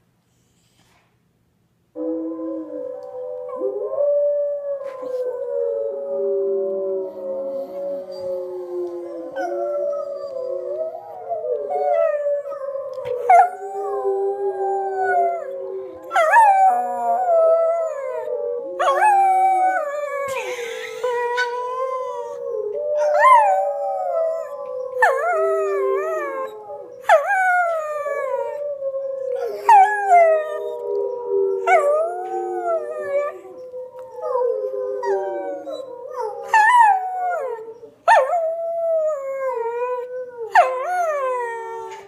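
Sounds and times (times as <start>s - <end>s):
wolves howling from tv speakers: 2.0s - 42.0s
dog howling: 6.6s - 42.0s.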